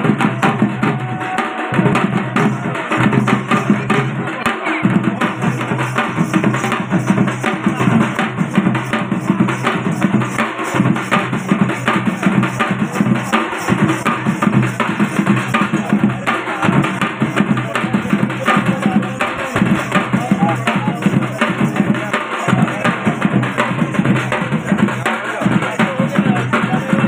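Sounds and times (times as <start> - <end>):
drums beaten in fast rhythm: 0.0 - 27.0.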